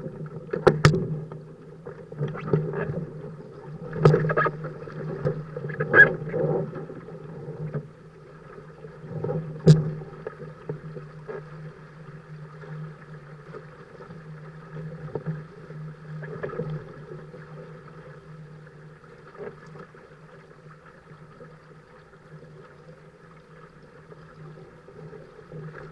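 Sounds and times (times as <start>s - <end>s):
rush of wind and water: 0.0s - 25.9s.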